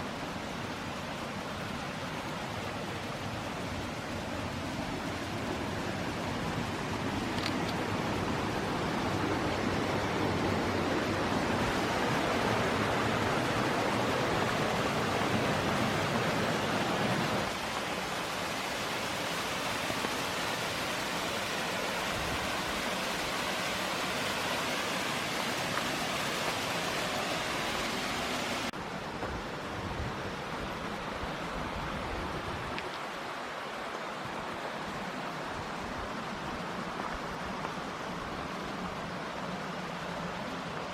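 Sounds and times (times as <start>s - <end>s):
rushing mountain water: 0.0s - 40.9s.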